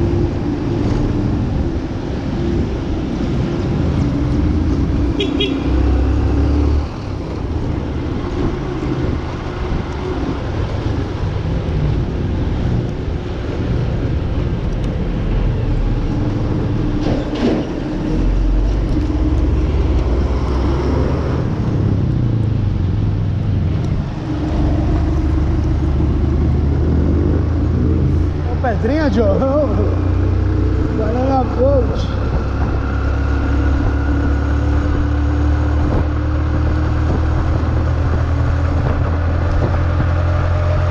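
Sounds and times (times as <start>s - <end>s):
road rumble: 0.0s - 40.9s
vehicle engine: 0.0s - 40.9s.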